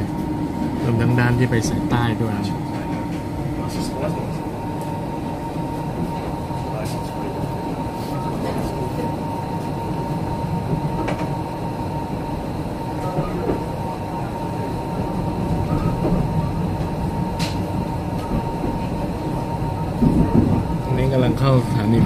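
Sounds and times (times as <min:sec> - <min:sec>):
sleeper car rumbling on rails: 0:00.0 - 0:22.0
thin steady whine: 0:00.0 - 0:22.0.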